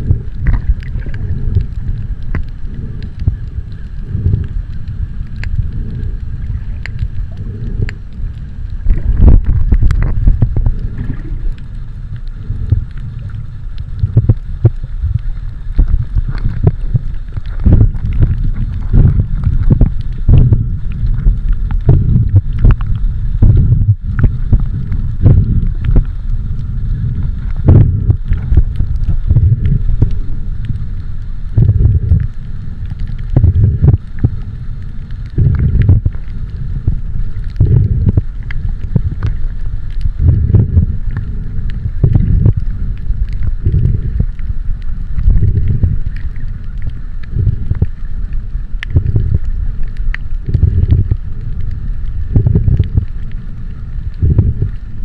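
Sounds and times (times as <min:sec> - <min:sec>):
faint steady hum: 0:00.0 - 0:55.0
wind buffeting microphone: 0:00.0 - 0:55.0.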